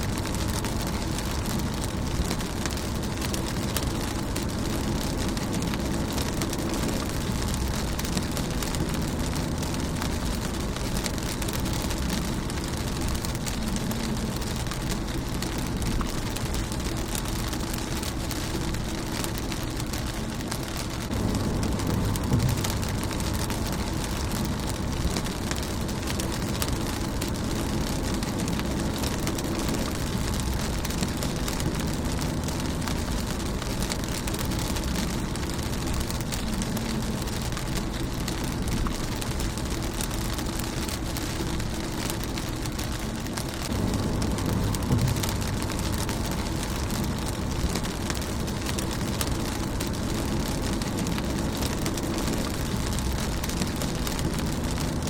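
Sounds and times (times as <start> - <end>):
low rumble: 0.0 - 55.0
rain on a car windshield: 0.0 - 55.0.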